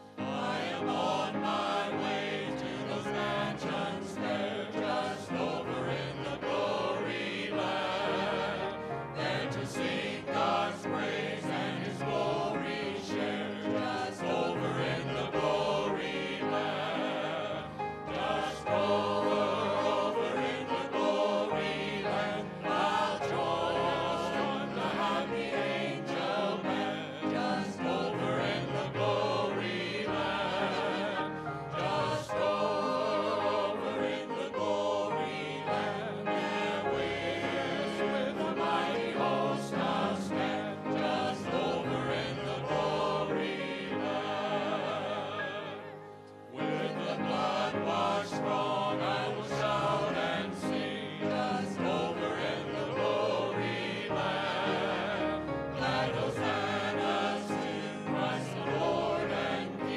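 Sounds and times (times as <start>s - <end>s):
group singing gospel song: 0.0s - 59.9s.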